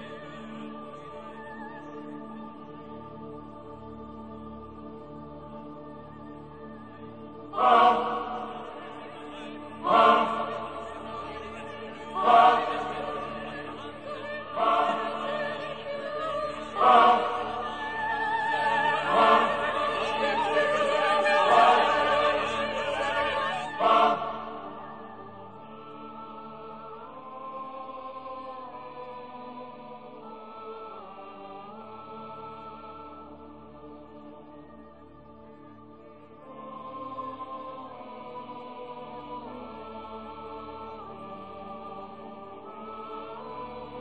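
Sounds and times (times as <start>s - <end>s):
choir chords over drone: 0.0s - 44.0s.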